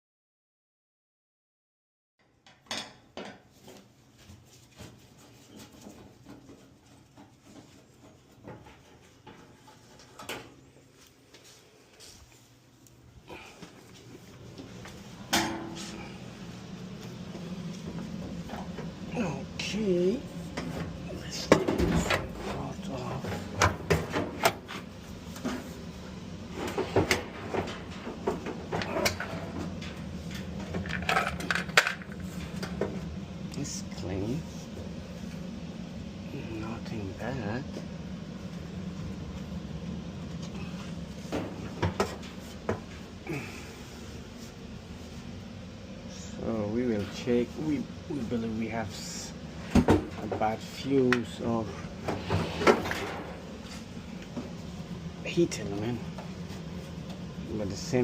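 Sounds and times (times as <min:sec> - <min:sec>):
steady low hum: 0:03.5 - 0:58.0.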